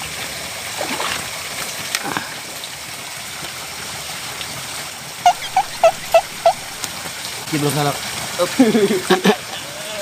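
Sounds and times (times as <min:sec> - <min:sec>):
water running in a concrete channel: 0:00.0 - 0:10.0.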